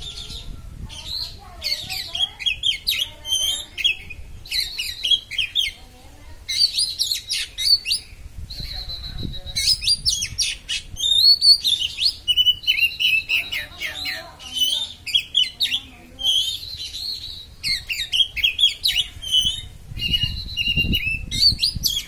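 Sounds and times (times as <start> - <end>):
bird singing chattering whistles: 0.0 - 5.8, 6.5 - 22.0.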